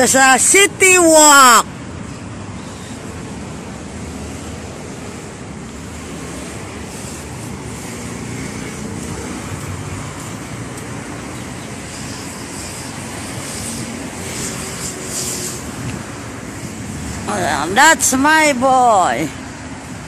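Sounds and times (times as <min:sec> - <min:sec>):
cars and motorbike passing: 0:00.0 - 0:20.0.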